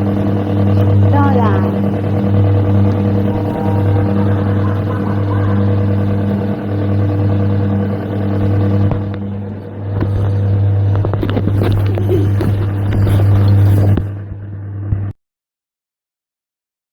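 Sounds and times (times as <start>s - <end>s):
electric motor hum: 0.0s - 15.1s.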